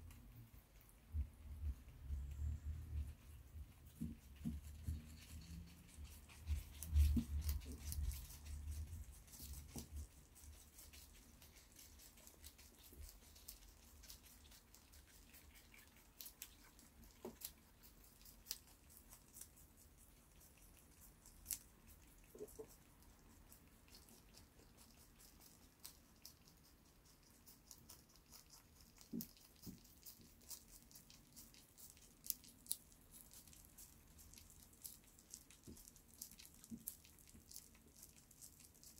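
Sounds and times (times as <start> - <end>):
rabbit chewing greens: 0.0 - 38.9.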